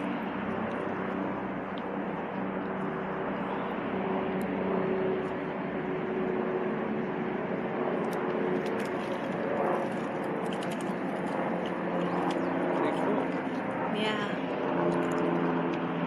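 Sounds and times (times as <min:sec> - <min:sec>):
broad rushing noise: 0:00.0 - 0:16.0
engine-like hum: 0:00.0 - 0:16.0.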